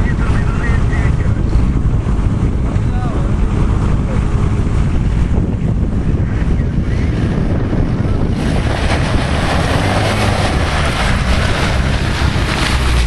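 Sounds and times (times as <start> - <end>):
vehicle engine under load: 0.0 - 13.0
wind buffeting microphone: 0.0 - 13.0.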